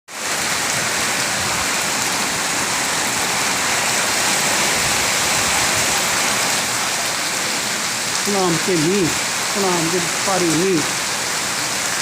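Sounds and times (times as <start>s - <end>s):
heavy rain pouring: 0.1s - 12.0s.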